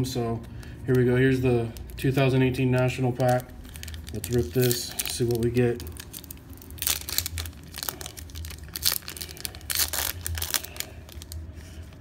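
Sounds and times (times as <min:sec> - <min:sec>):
foil wrapper ripping and crinkling: 0:00.6 - 0:12.0.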